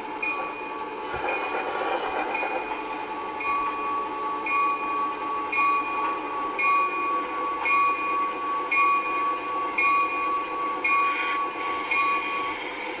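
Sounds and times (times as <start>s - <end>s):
locomotive bell ringing: 0.1s - 13.0s.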